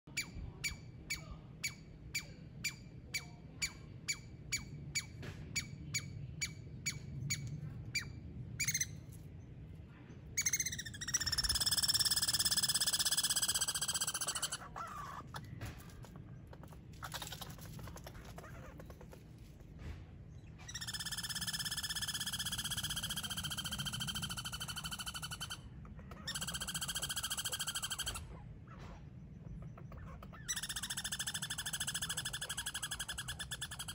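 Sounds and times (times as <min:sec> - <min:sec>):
squirrel barking: 0:00.1 - 0:09.0, 0:10.4 - 0:19.2, 0:20.6 - 0:33.9
squirrel rattling calls: 0:00.1 - 0:09.2, 0:10.4 - 0:19.7, 0:20.4 - 0:33.9.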